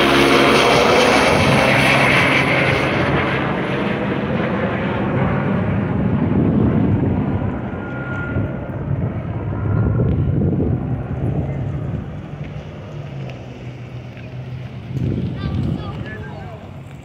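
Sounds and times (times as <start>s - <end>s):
helicopter flying: 0.0s - 17.0s.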